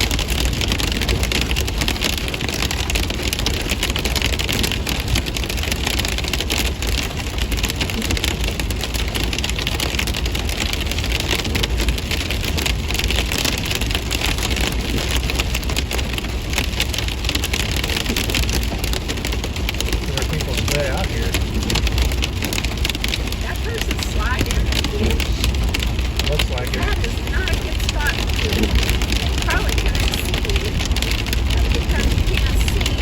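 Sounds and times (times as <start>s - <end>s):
hailstones rattling on vehicle: 0.0s - 33.0s
vehicle low rumble: 0.0s - 33.0s.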